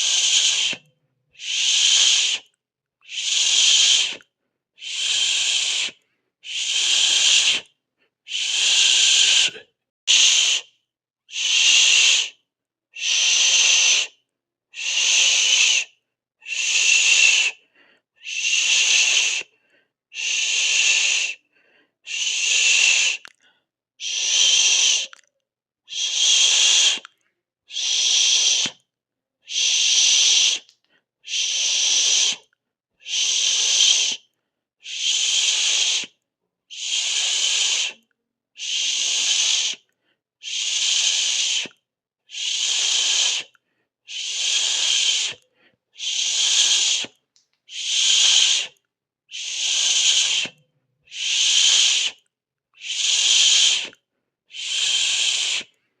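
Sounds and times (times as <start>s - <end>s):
person hissing through teeth: 0.0s - 7.7s, 8.3s - 10.7s, 11.3s - 12.4s, 13.0s - 14.1s, 14.8s - 17.6s, 18.2s - 19.5s, 20.1s - 21.4s, 22.1s - 23.4s, 24.0s - 25.3s, 25.9s - 28.8s, 29.4s - 55.8s.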